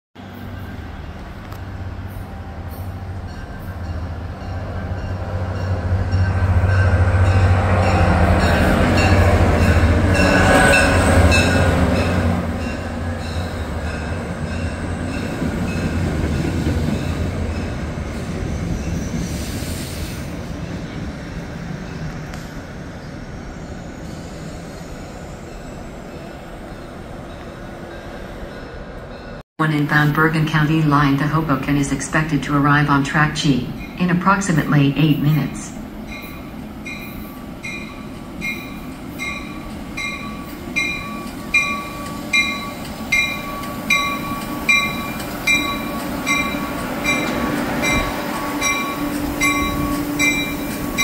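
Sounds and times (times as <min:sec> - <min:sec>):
diesel train engine hum: 0:00.2 - 0:51.0.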